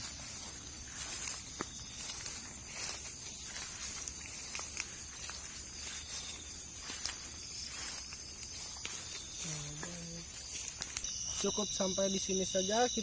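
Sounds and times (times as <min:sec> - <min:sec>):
footsteps clicking and rustling: 0:00.0 - 0:11.6
high-pitched insect chorus: 0:00.0 - 0:13.0.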